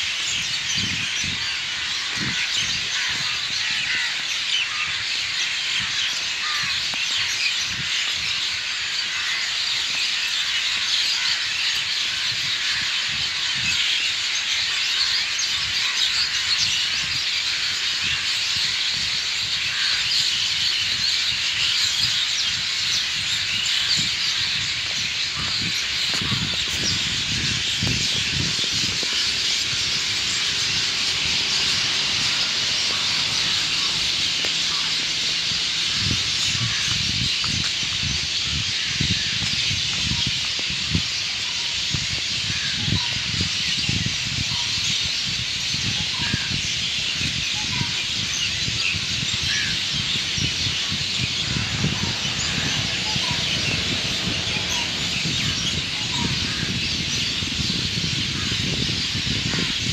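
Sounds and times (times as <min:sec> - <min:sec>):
many birds chirping: 0:00.0 - 0:59.9
wind rumble on microphone: 0:00.0 - 0:59.9.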